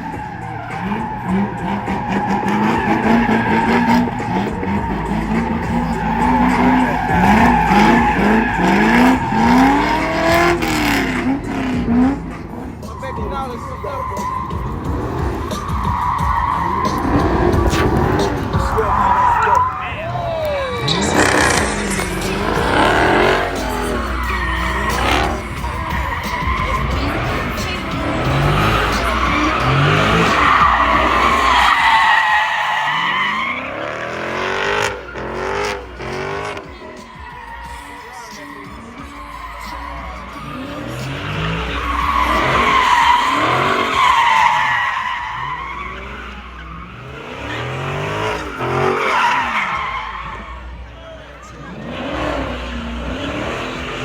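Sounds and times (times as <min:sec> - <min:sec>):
car engine revving: 0:00.0 - 0:54.0
tyres squealing: 0:00.0 - 0:54.0.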